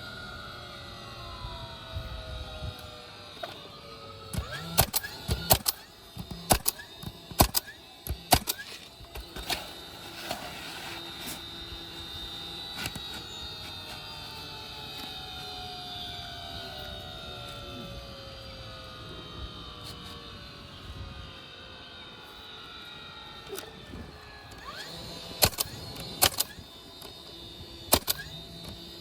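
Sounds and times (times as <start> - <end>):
machine hum with falling tones: 0.0 - 29.0.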